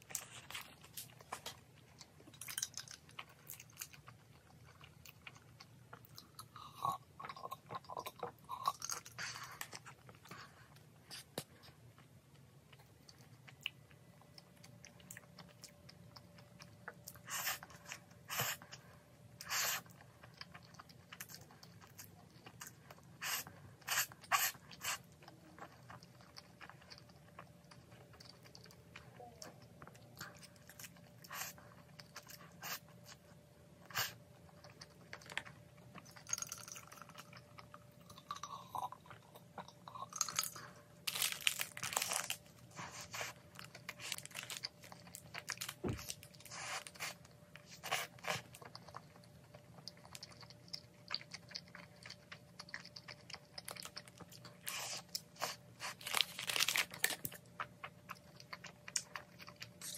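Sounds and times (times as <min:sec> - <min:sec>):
chewing noodles: 0:00.0 - 0:59.9
loud eating noises: 0:00.0 - 0:59.9.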